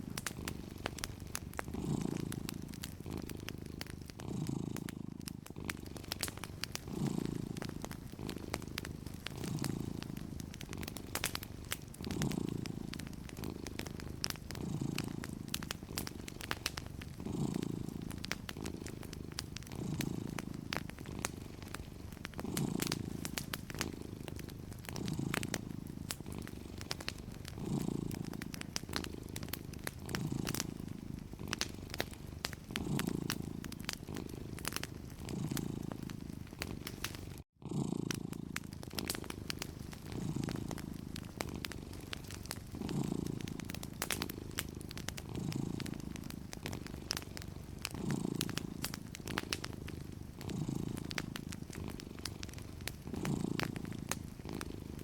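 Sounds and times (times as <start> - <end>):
cat purring: 0.0 - 55.0
wood fire crackling: 0.0 - 55.0.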